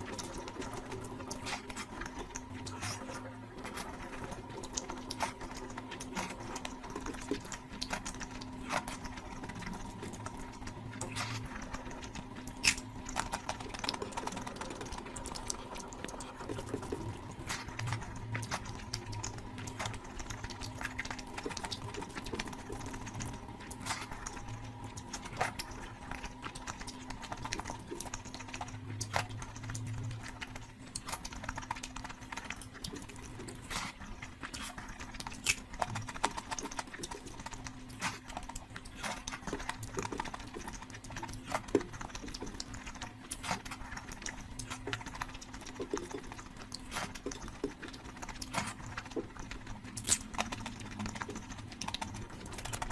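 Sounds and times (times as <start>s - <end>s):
chewing food: 0.0s - 52.9s
steady low hum: 0.0s - 52.9s.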